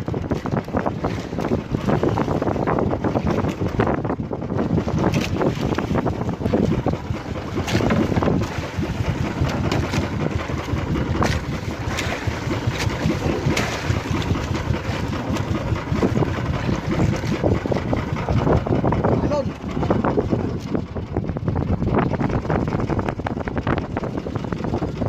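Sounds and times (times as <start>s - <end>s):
water rushing past a boat: 0.0s - 25.0s
water slapping against hull: 0.0s - 25.0s
wind buffeting microphone: 0.0s - 25.0s.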